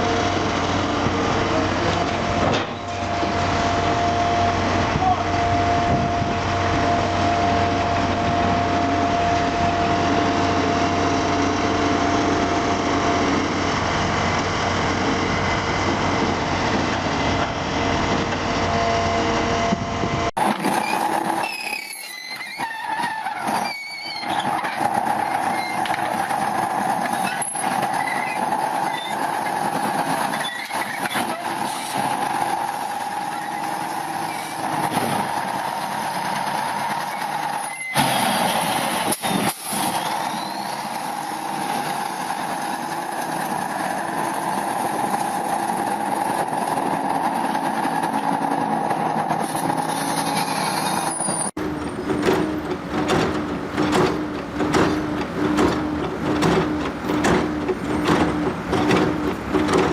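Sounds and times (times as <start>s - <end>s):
engine drone with whine: 0.0s - 59.9s
machine engine with squeals and knocks: 0.0s - 59.9s.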